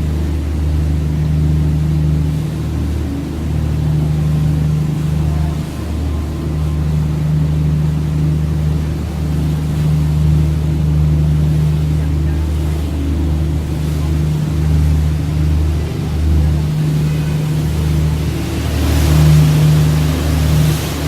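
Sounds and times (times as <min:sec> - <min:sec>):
boat engine droning: 0:00.0 - 0:21.0
water noise: 0:00.0 - 0:21.0.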